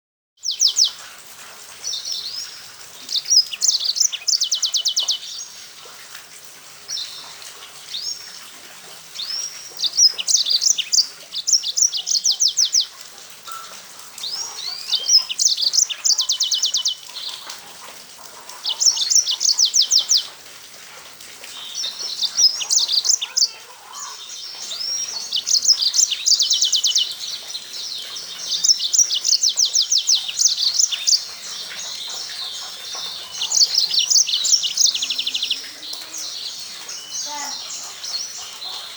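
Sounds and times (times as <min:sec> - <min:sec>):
canary singing trills: 0:00.4 - 0:01.0, 0:01.9 - 0:05.5, 0:09.2 - 0:17.6, 0:18.5 - 0:20.3, 0:21.6 - 0:38.9.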